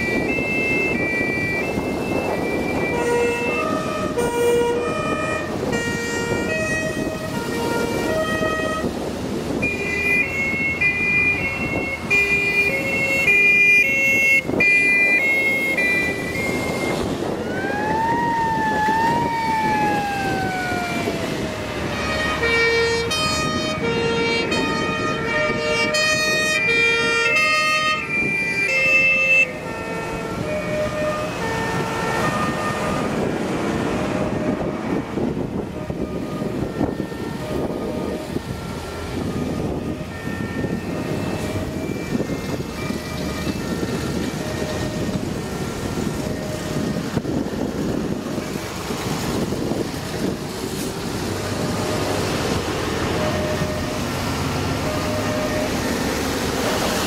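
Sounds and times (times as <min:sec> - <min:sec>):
siren wail: 0:00.0 - 0:50.4, 0:51.3 - 0:57.0
truck engines running: 0:00.0 - 0:57.0
two-tone fire engine horns: 0:00.0 - 0:57.0.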